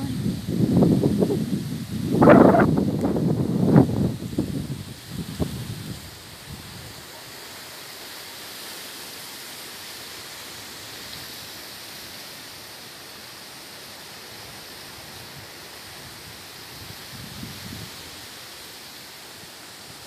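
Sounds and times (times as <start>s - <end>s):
strong wind rushing through trees: 0.0s - 20.0s.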